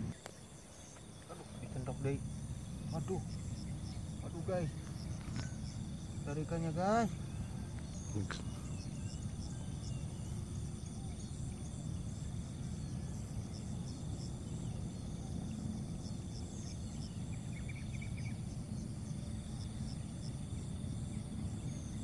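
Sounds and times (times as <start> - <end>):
higher insect chirps: 0.0 - 22.0
insects chirping in pulses: 0.0 - 22.0
steady low rumble: 0.0 - 22.0.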